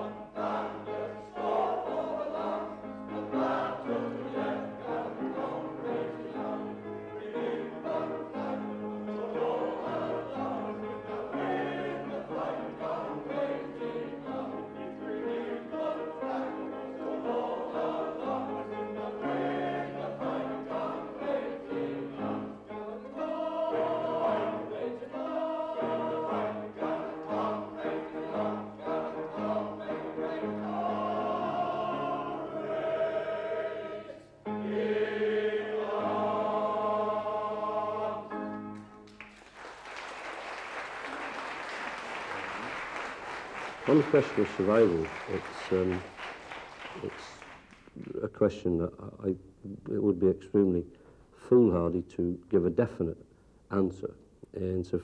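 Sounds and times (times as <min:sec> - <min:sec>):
male choir singing in harmony: 0:00.0 - 0:39.0, 0:41.0 - 0:47.5.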